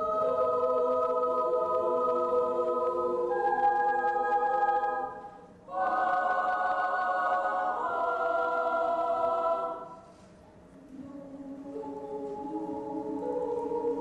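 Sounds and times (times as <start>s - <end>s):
children's choir singing chords: 0.0s - 10.0s, 10.9s - 14.0s.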